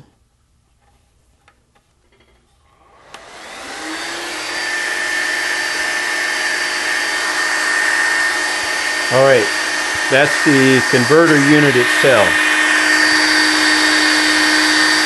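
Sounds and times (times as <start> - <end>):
cooling fan whirring: 2.7 - 15.0.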